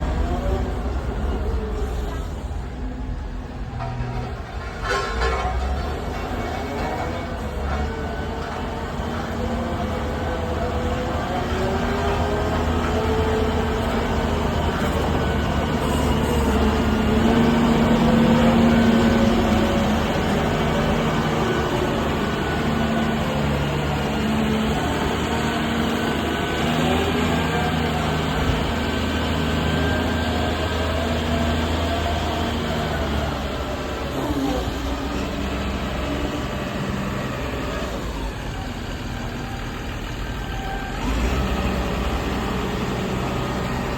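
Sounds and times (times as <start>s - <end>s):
excavator diesel engine: 0.0s - 43.9s.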